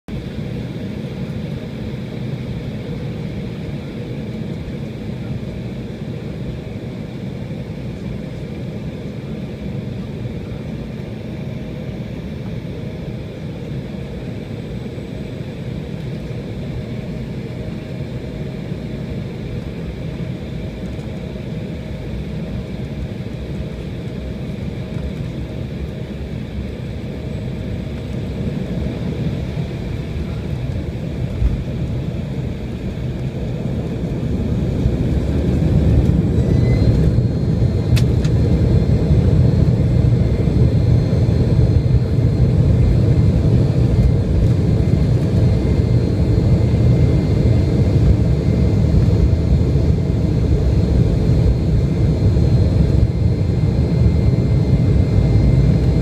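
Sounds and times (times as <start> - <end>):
airliner engine rumble in cabin: 0.1 - 56.0.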